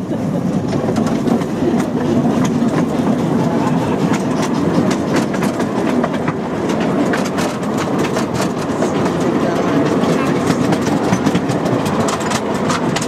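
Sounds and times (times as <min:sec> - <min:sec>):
wheels and couplings clattering: 0:00.0 - 0:13.0
wheels rumbling on rail: 0:00.0 - 0:13.0.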